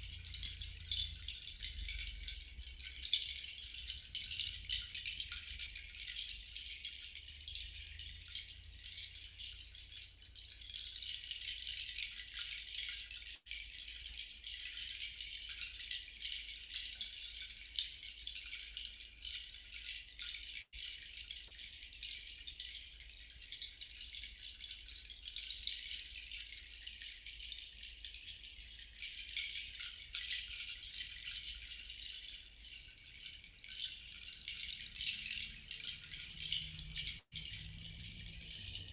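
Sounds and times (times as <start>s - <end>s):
shaker swishing: 0.0s - 38.9s.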